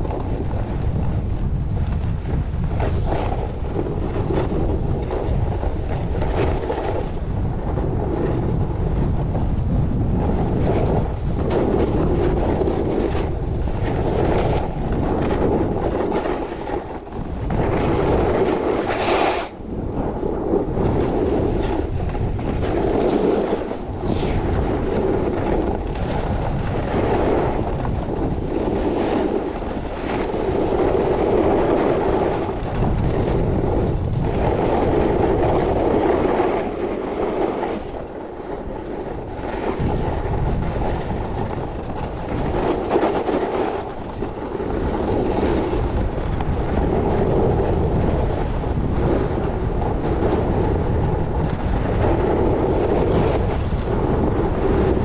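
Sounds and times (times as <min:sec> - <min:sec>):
snowboard scraping over snow: 0:00.0 - 0:55.0
wind buffeting microphone: 0:00.0 - 0:55.0.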